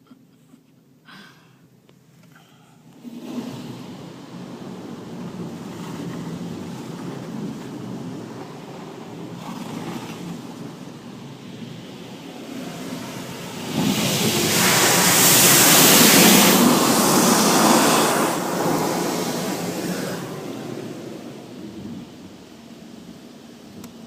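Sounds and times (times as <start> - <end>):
car wash spray hissing: 2.9 - 24.0.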